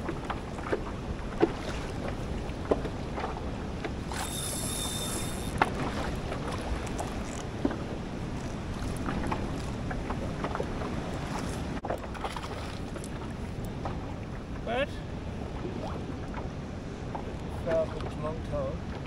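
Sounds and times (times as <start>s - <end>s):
water slopping against hull: 0.0s - 19.0s.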